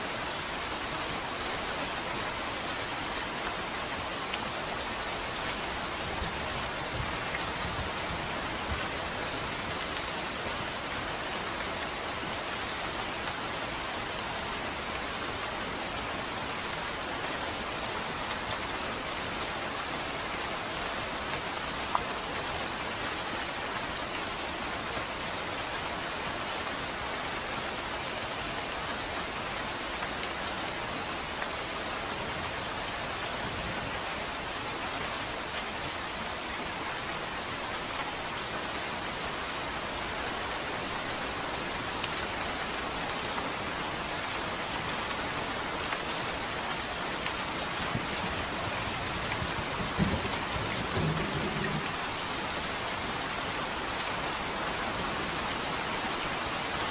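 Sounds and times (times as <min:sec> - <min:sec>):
rain pattering: 0:00.0 - 0:56.9.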